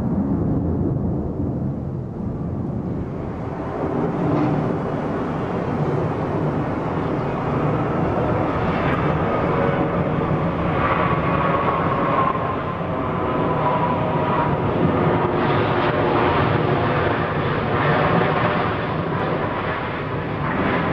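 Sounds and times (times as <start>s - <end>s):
jet engine rumble: 0.0s - 20.9s
jet engine whine: 0.0s - 20.9s.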